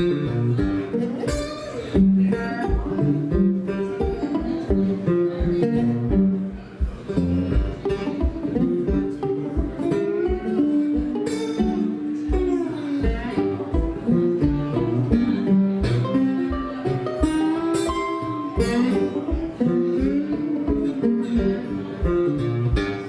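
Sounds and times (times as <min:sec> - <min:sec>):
plucked acoustic guitar melody: 0:00.0 - 0:23.0
steady low beat: 0:00.0 - 0:23.0.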